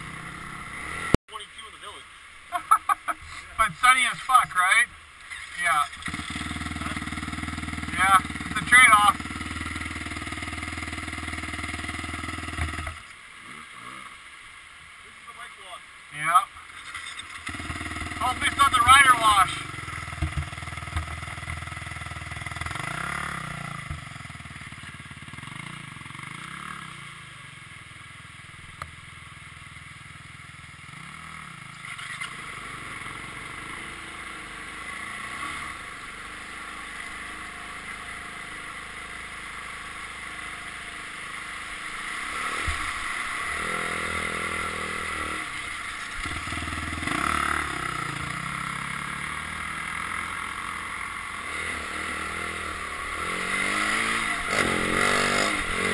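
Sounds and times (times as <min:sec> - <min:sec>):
dirt bike engine revving: 0:00.0 - 0:01.2, 0:02.5 - 0:14.3, 0:16.3 - 0:27.5, 0:30.8 - 0:55.9.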